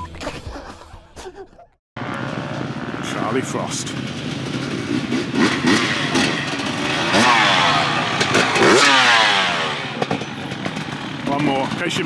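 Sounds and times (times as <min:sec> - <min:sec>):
motorcycle engine revving: 0:02.0 - 0:12.0.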